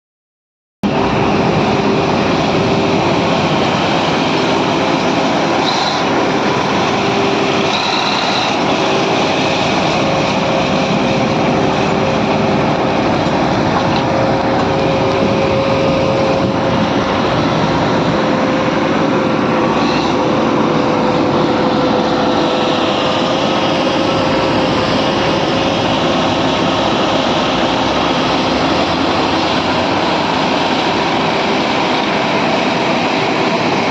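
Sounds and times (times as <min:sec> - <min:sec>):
bulldozer running: 0:00.8 - 0:33.9.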